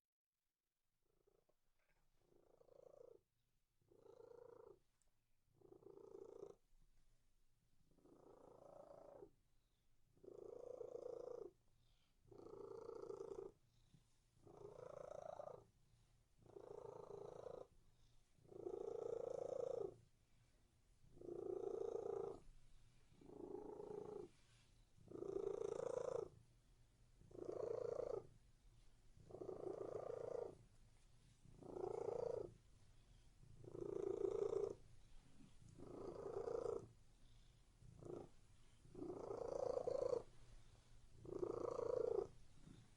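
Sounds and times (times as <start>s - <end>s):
cat purring: 1.1s - 42.9s.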